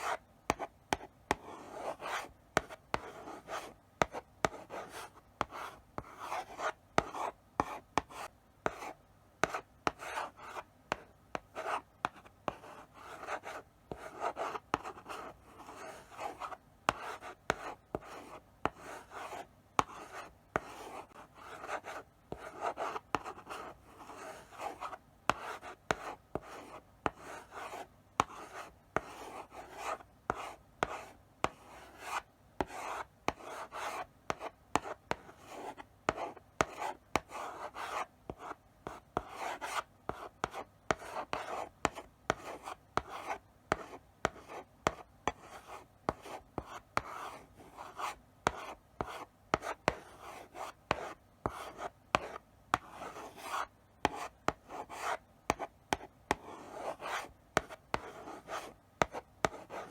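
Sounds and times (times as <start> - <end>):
chalk scratching on blackboard: 0.0 - 59.9
chalk tapping on board: 0.0 - 59.9.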